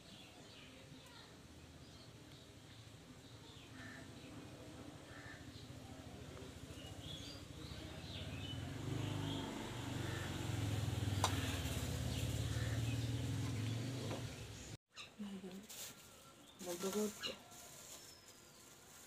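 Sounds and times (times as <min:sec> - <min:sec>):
small birds chirping: 0:00.0 - 0:15.6.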